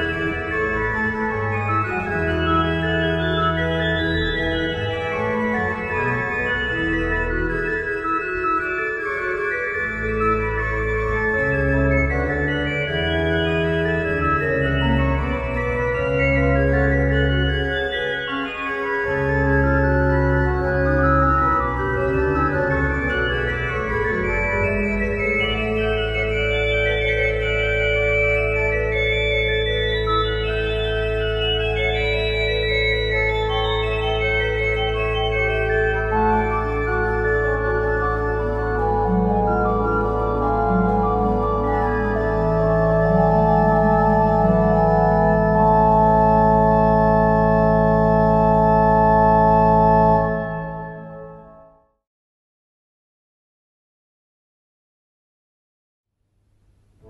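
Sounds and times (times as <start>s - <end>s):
organ playing slow chords: 0.0s - 51.9s.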